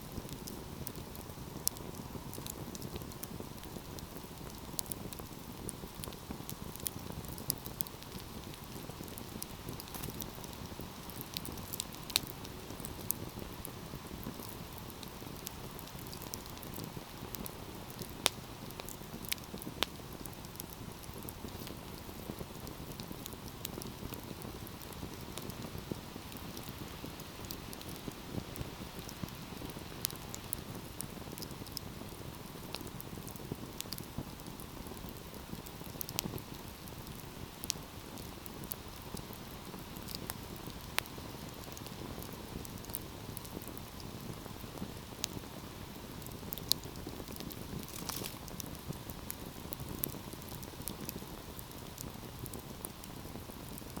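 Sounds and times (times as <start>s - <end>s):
hiss of burning: 0.0s - 54.0s
wood fire crackling and popping: 0.0s - 54.0s.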